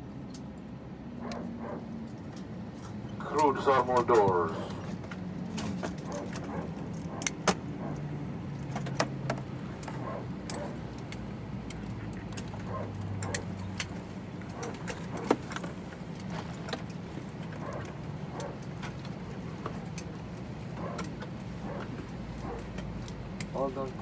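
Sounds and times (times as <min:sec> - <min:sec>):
steady low cabin hum: 0:00.0 - 0:24.0
sharp clicks and rattles: 0:02.1 - 0:24.0.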